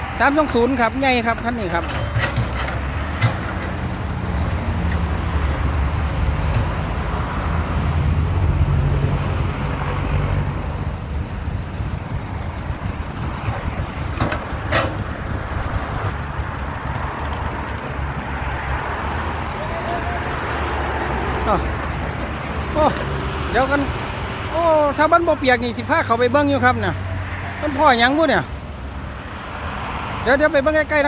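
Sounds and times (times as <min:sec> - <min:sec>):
excavator diesel engine running: 0:00.0 - 0:29.1.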